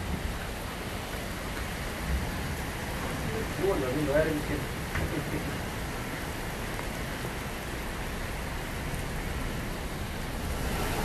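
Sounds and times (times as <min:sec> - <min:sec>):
rain on pavement and cars: 0:00.0 - 0:11.0.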